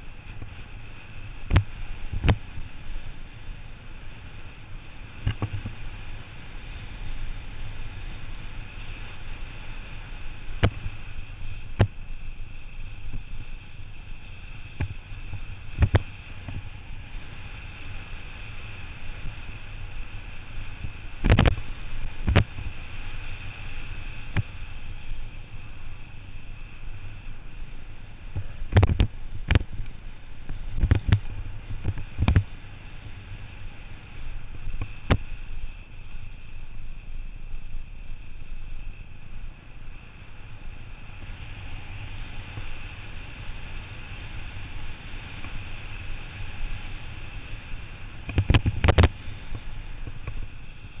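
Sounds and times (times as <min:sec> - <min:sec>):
road noise: 0:00.0 - 0:51.0
wind on microphone: 0:00.0 - 0:51.0.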